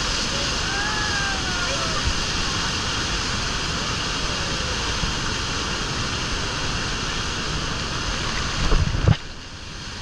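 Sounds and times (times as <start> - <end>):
waterfall roaring onto rocks: 0.0 - 10.0
wind buffeting microphone: 0.0 - 10.0.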